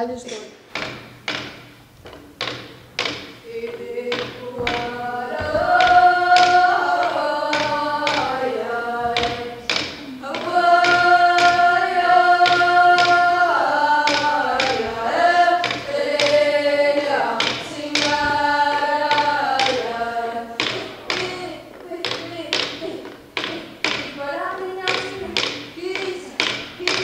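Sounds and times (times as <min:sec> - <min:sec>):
frame drum rim strokes: 0:00.2 - 0:27.0
woman singing long held notes: 0:03.4 - 0:27.0.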